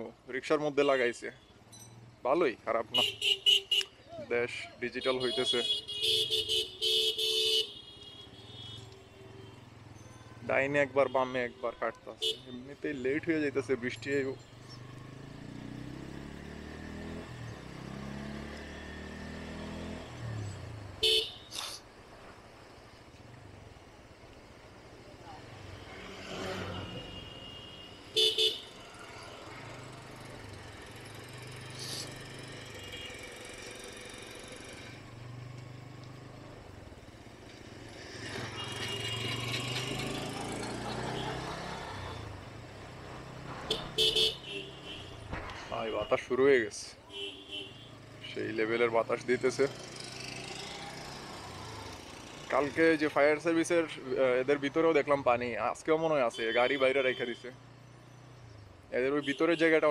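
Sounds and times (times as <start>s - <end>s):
wind and road noise: 1.7s - 56.0s.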